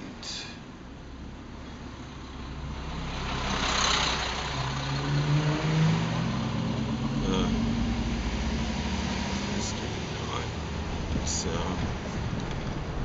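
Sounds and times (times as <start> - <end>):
car engine hum: 0.0 - 13.0
vehicles accelerating: 0.0 - 13.0.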